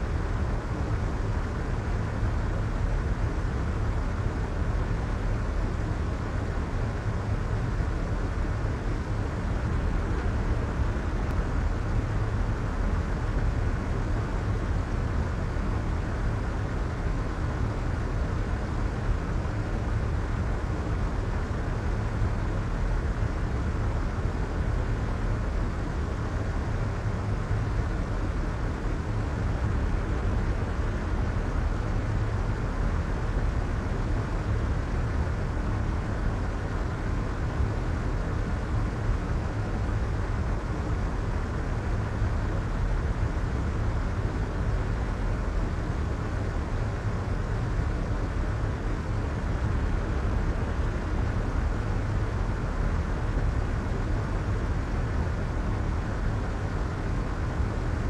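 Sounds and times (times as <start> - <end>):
soft white noise hiss: 0.0 - 58.0.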